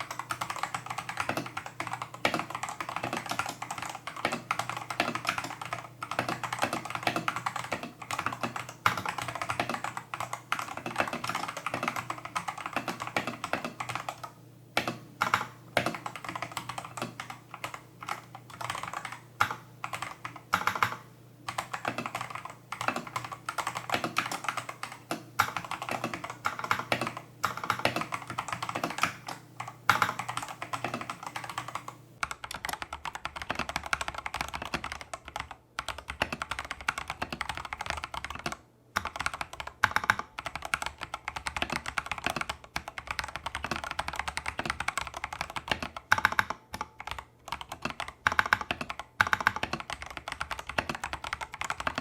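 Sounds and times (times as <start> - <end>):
mechanical keyboard typing: 0.0 - 52.0.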